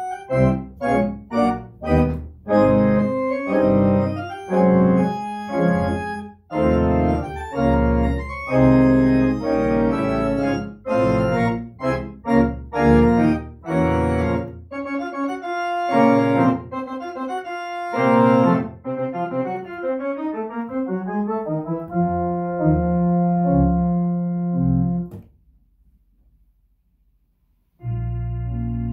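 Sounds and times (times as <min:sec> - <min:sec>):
organ playing solemn chords: 0:00.0 - 0:25.1, 0:27.8 - 0:28.9
deep organ pedal bass: 0:00.0 - 0:25.2, 0:27.8 - 0:28.9.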